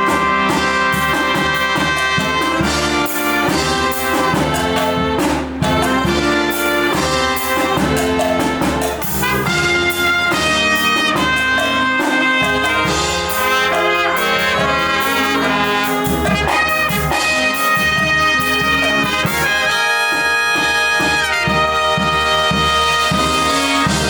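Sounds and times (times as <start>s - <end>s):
percussion beat: 0.0s - 24.0s
trumpets and trombones: 0.0s - 24.0s.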